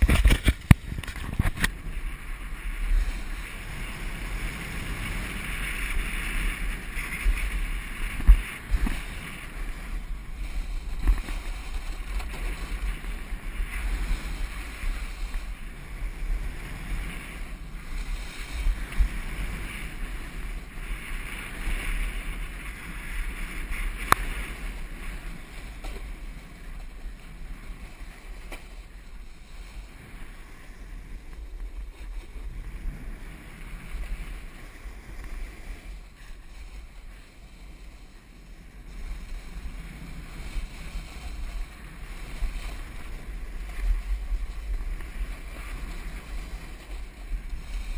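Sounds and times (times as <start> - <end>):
snowboard scraping over snow: 0.0 - 47.9
wind buffeting microphone: 0.0 - 47.9.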